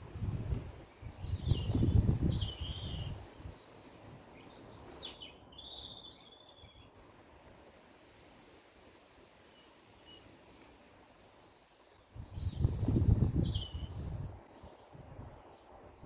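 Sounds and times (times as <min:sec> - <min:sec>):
birds chirping: 0:00.8 - 0:07.5, 0:09.4 - 0:16.0.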